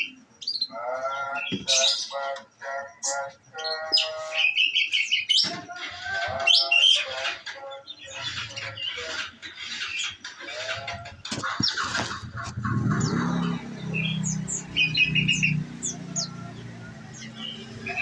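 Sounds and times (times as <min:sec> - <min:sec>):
bird chirping and trilling: 0:00.0 - 0:18.0.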